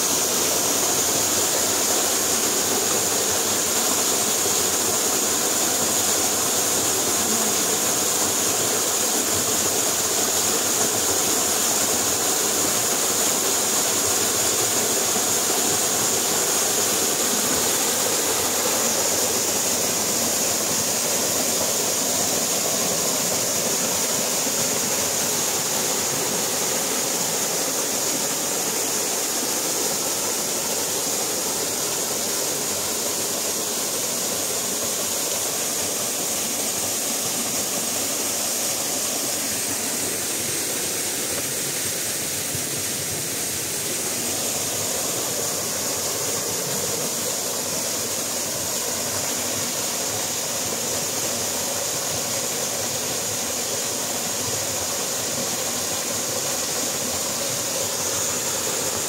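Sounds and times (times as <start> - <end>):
waterfall pouring into pool: 0.0 - 59.0.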